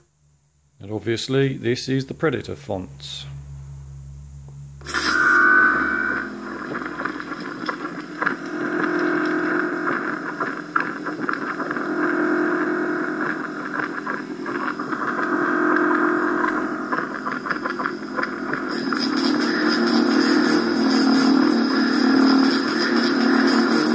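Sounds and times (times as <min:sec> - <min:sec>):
lightsaber droning hum: 0:00.0 - 0:23.9.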